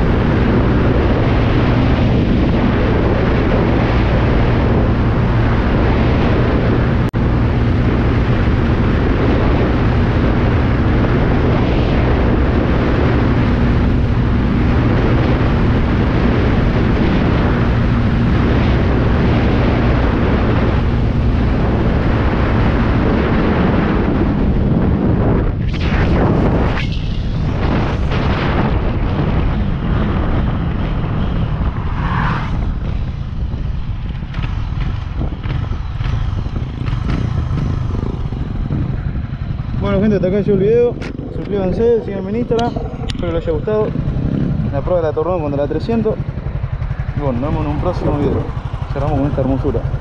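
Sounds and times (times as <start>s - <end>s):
motorcycle engine drone: 0.0s - 50.0s
wind noise on microphone: 0.0s - 50.0s.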